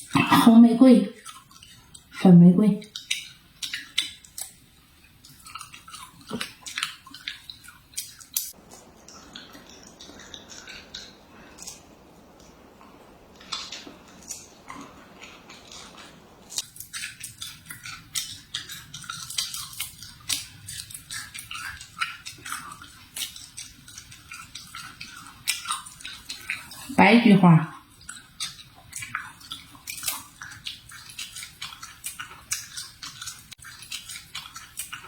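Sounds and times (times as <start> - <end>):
crunchy food being chewed: 1.2 - 2.2, 2.8 - 26.9, 27.8 - 35.0.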